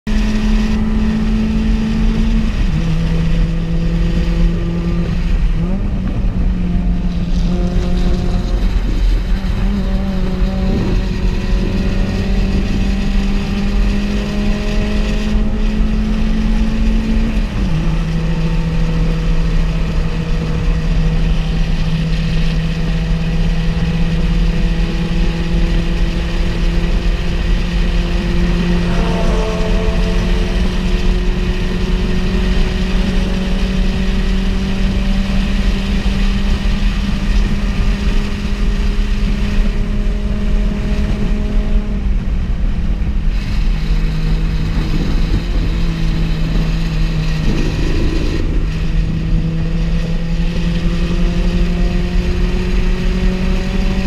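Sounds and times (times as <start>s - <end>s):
car engine at high revs: 0.0s - 54.0s
wind and road noise: 0.0s - 54.0s.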